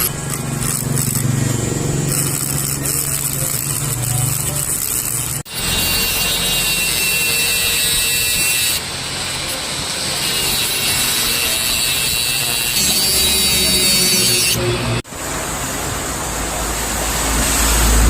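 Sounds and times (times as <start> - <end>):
mini grinder grinding metal: 0.0 - 14.9.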